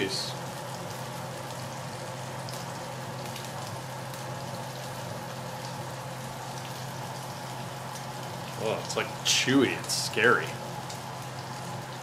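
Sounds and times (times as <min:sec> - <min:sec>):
fish sizzling in a skillet: 0:00.0 - 0:12.0.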